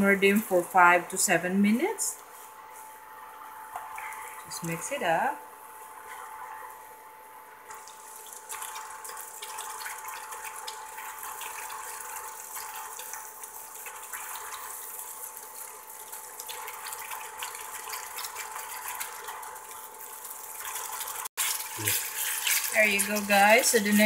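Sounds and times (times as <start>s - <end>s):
stew sizzling and bubbling: 0.0s - 24.0s.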